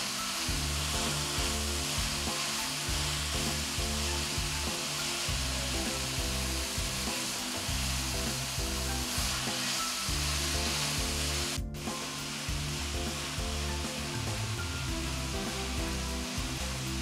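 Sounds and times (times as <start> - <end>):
background music: 0.0 - 17.0
food sizzling in ghee: 0.0 - 17.0.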